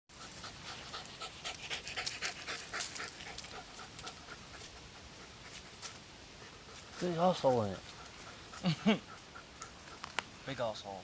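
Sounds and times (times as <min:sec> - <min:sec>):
dog panting: 0:00.1 - 0:10.2.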